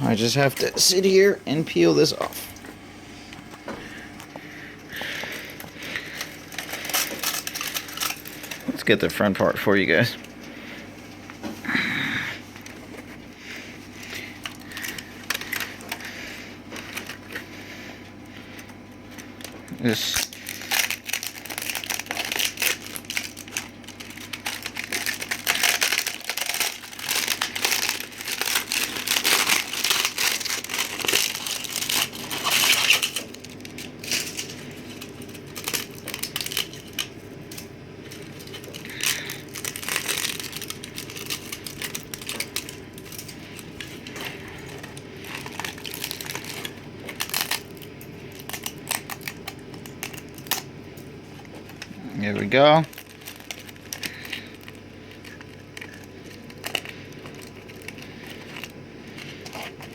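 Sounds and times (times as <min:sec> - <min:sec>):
plastic crackling and snapping: 0:03.3 - 0:09.1, 0:13.8 - 0:17.4, 0:18.2 - 0:59.9.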